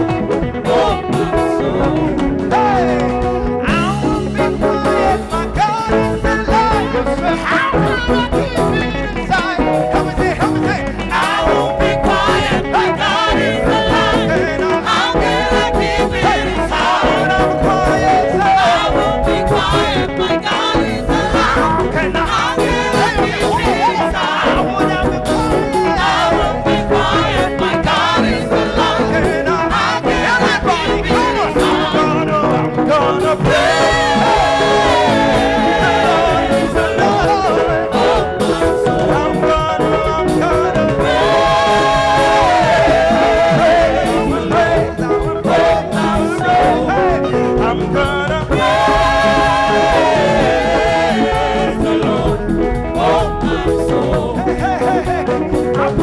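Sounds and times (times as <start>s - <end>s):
live gospel band with singing: 0.0s - 56.0s.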